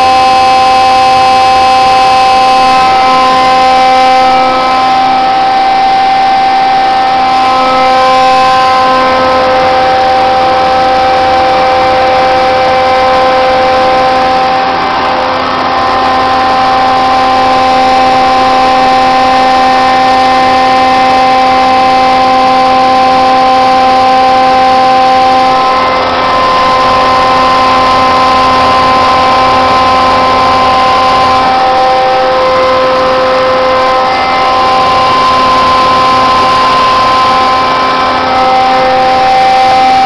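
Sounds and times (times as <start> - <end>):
planer machine whine: 0.0 - 40.0.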